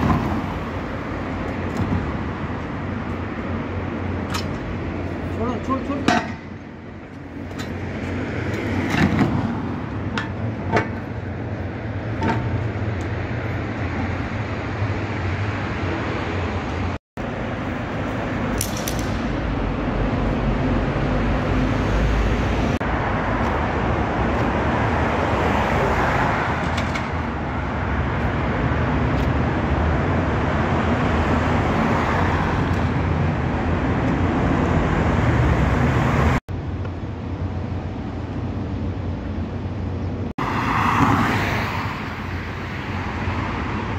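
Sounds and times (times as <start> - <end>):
cars passing in a tunnel: 0.0 - 43.9.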